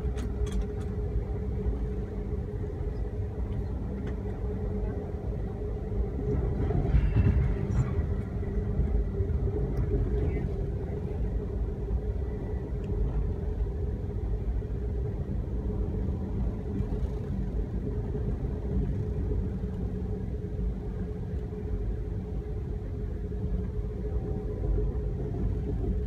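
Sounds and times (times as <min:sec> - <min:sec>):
train rumbling on tracks: 0:00.0 - 0:26.0.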